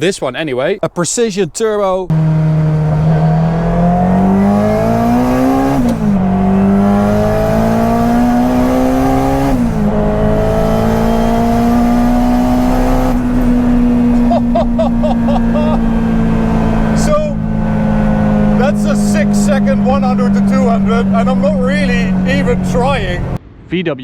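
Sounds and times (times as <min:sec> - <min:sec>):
car engine accelerating hard: 0:02.1 - 0:23.4
gear upshifts: 0:02.1 - 0:23.4.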